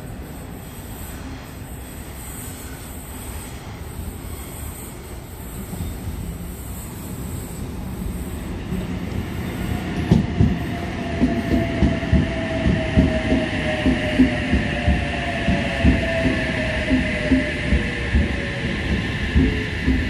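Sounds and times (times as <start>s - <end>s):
train rumble: 0.0s - 20.0s
train motor whine: 3.4s - 20.0s.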